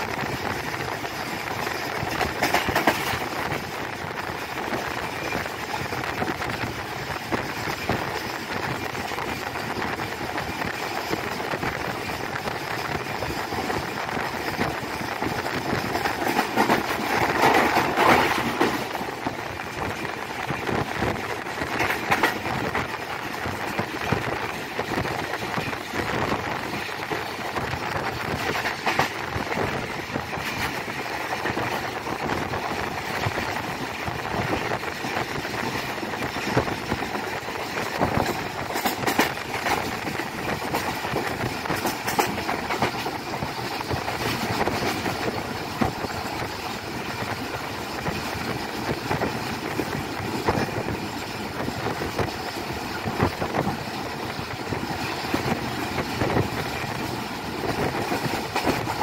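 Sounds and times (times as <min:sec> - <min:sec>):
rail clicks: 0:00.0 - 0:59.0
train wheels on rail: 0:00.0 - 0:59.0.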